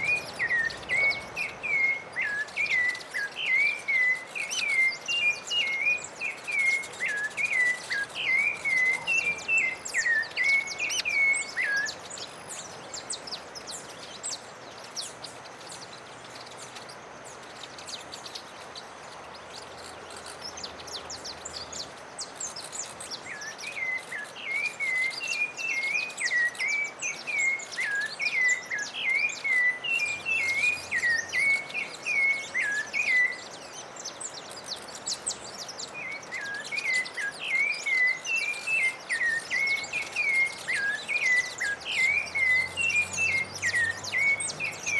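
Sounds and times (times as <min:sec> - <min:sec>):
faint high bird chirps: 0:00.0 - 0:44.9
songbird singing whistled notes: 0:00.0 - 0:44.9.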